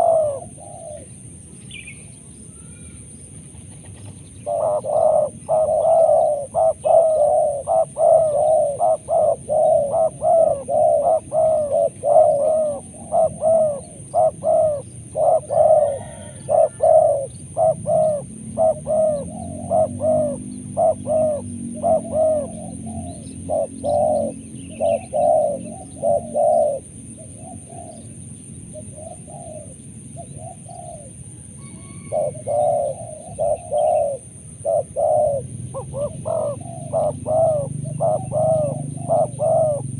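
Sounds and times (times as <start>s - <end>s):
doves cooing: 0.0s - 1.4s, 3.5s - 39.9s.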